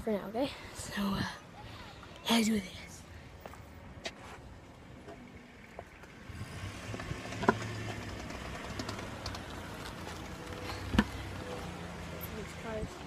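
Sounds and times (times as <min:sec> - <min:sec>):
van engine humming: 0:00.0 - 0:13.0.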